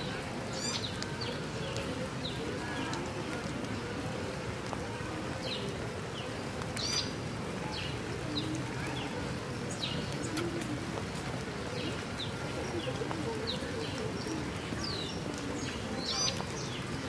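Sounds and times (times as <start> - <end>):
small birds chirping: 0.5 - 3.0, 5.4 - 17.0.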